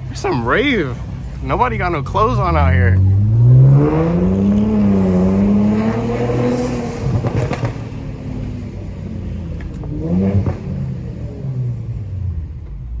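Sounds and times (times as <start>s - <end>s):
car engine revving: 0.0s - 13.0s
road noise: 0.0s - 13.0s.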